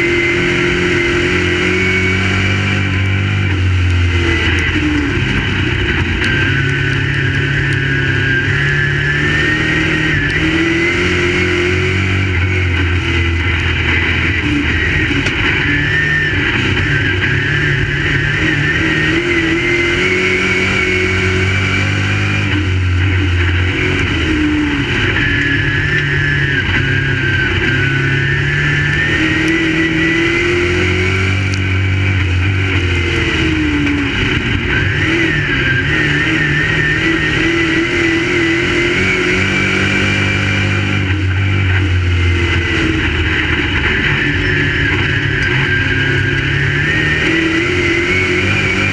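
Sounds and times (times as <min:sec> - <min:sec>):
race car engines revving: 0:00.0 - 0:48.9.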